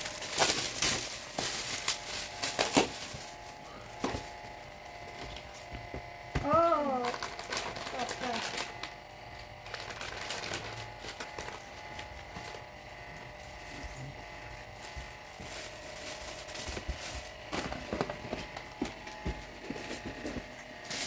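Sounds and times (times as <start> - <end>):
packaging rustling: 0.0 - 5.8, 7.0 - 21.0.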